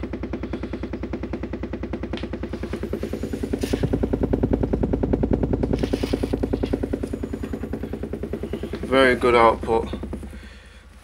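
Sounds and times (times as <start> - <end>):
subwoofer low flutter: 0.0 - 11.0.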